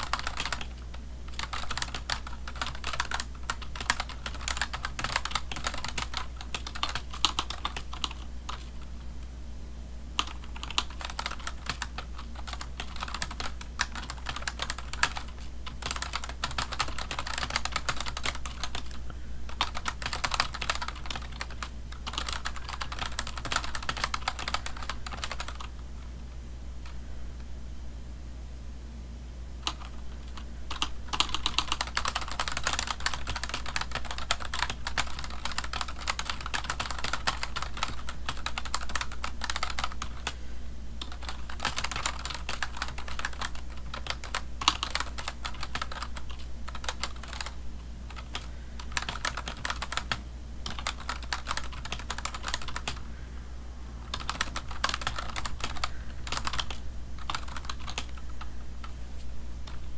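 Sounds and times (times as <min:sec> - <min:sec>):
fast keyboard typing: 0:00.0 - 0:09.0, 0:10.2 - 0:25.8, 0:29.6 - 0:40.4, 0:41.0 - 0:53.1, 0:54.0 - 0:58.9
steady low hum: 0:00.0 - 0:59.9.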